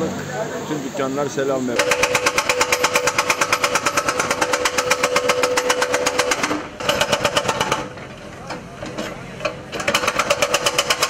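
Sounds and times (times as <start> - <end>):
hydraulic breaker hammering: 1.8 - 11.0.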